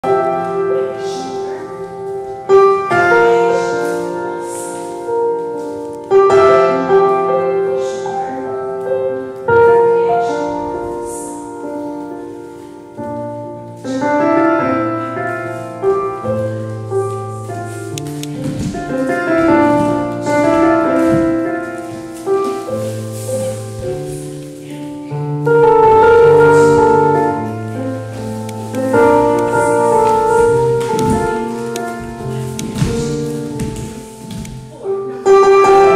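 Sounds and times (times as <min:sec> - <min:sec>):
slow piano music: 0:00.0 - 0:35.9.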